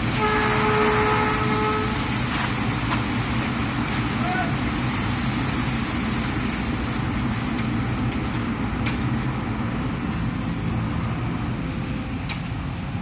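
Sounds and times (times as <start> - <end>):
heavy diesel machinery droning: 0.0 - 13.0.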